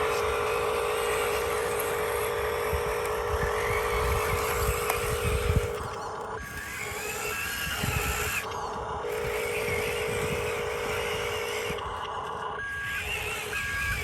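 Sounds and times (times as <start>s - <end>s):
higher rising and falling whine: 0.0s - 12.1s
small electric motors whining: 0.0s - 14.0s.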